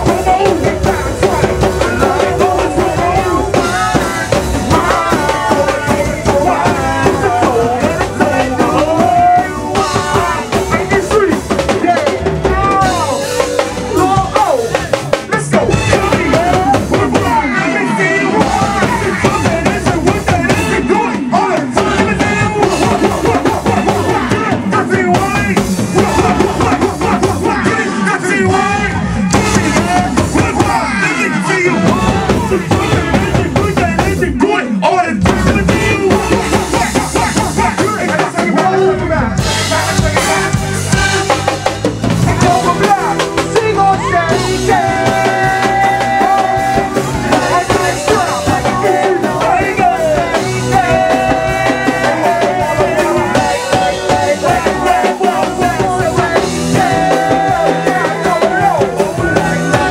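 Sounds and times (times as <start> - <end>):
bass drum and snare rimshots: 0.0 - 17.6, 18.3 - 31.0, 31.7 - 59.9
live band playing: 0.0 - 59.9.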